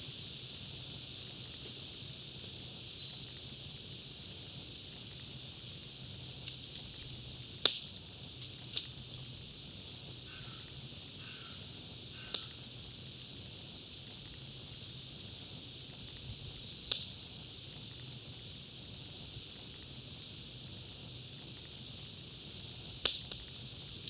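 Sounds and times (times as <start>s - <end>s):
campfire crackling and popping: 0.1s - 24.0s.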